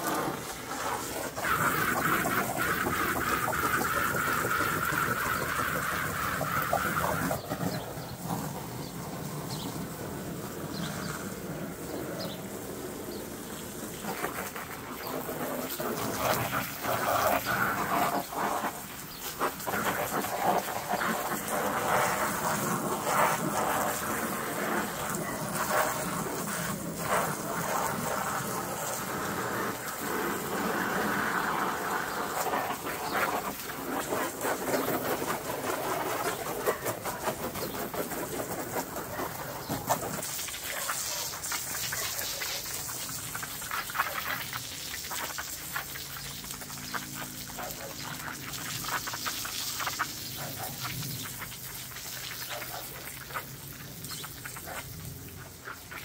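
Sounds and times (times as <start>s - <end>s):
water jet splashing on vinyl: 0.0s - 56.0s.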